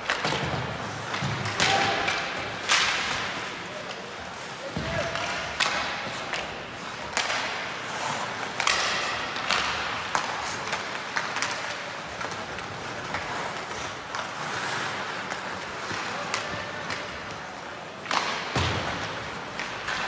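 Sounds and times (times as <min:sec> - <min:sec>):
hockey sticks and puck clacking: 0:00.0 - 0:20.0.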